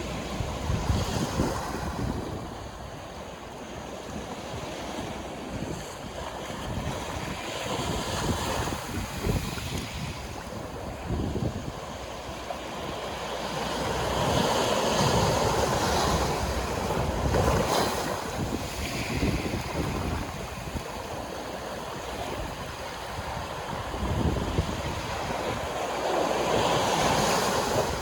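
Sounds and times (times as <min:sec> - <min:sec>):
sea waves breaking on shore: 0:00.0 - 0:28.0
wind buffeting microphone: 0:00.0 - 0:28.0.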